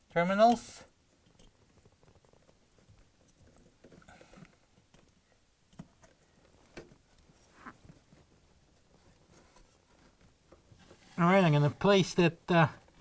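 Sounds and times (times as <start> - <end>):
faint handling clicks and knocks: 0.5 - 11.0.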